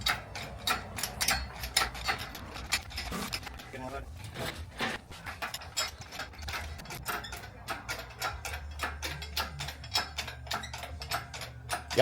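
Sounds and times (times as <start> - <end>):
light metallic clicks and ticks: 0.0 - 4.2, 5.1 - 12.0.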